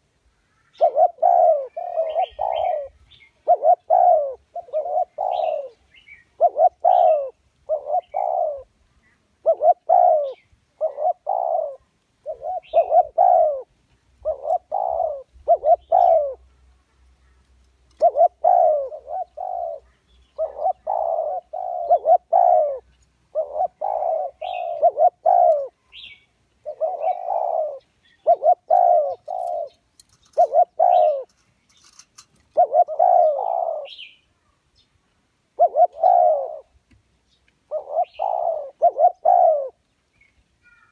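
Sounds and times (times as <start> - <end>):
dove cooing: 0.0 - 16.6, 17.2 - 34.2, 35.5 - 36.8, 37.6 - 39.8.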